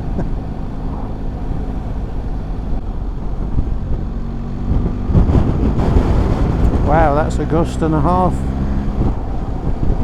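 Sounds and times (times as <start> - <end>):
motorcycle engine cruising: 0.0 - 10.0
wind noise: 0.0 - 10.0.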